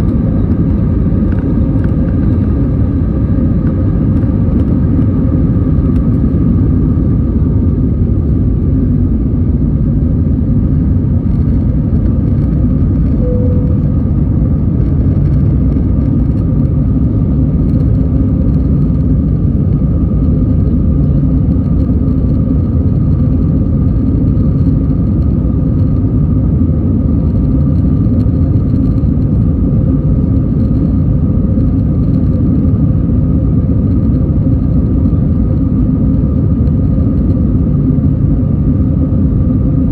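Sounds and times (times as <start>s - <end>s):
constant hum: 0.0s - 39.9s
jet engine cabin rumble: 0.0s - 39.9s.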